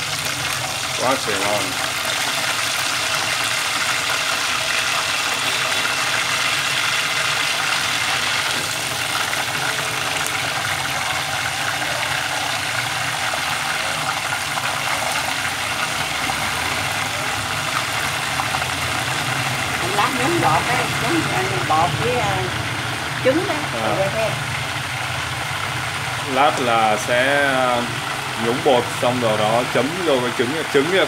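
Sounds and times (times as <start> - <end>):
oil bubbling and sizzling: 0.0 - 31.0.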